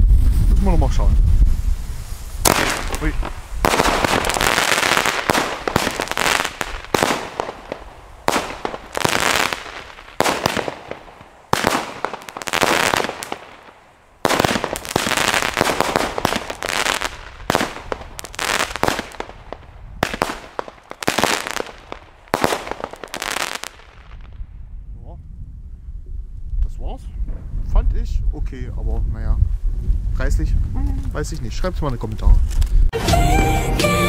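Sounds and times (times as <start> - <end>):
fireworks reports and crackling: 0.0 - 24.4, 26.6 - 32.8.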